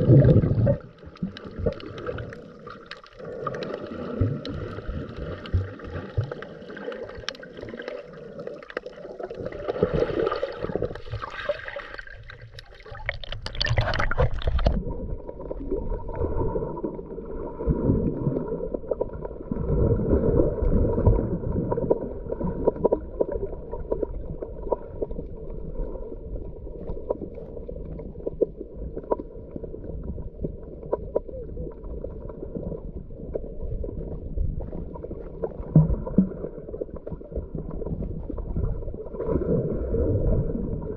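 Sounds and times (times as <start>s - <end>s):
underwater regulator bubbles: 0.0s - 40.9s.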